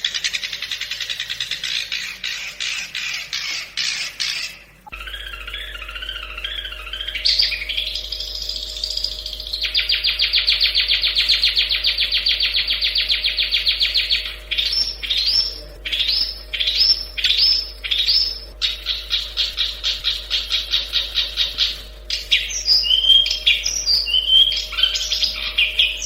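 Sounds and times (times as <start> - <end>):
bird singing trills and whistles: 0.0 - 26.0.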